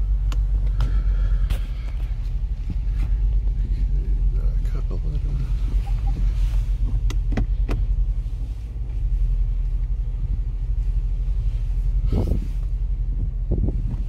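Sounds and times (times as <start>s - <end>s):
car cabin low rumble: 0.0s - 14.0s.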